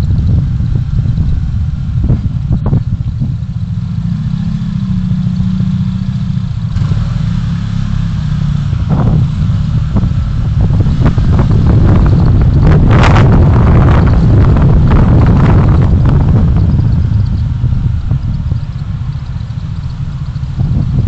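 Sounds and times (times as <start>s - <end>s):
wind buffeting microphone: 0.0s - 7.0s, 8.5s - 21.0s
road and engine rumble: 0.0s - 21.0s
steady engine hum: 0.0s - 21.0s.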